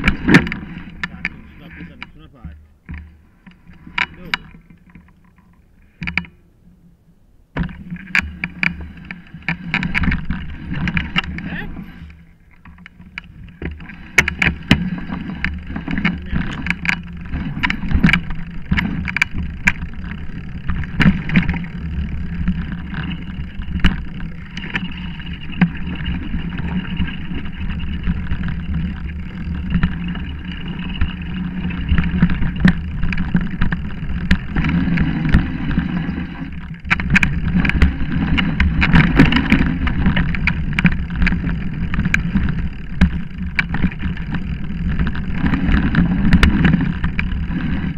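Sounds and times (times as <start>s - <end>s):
bike tyres rumbling on dirt: 0.0s - 6.2s, 7.5s - 47.9s
bike rattling over bumps: 0.0s - 6.5s, 7.5s - 47.9s.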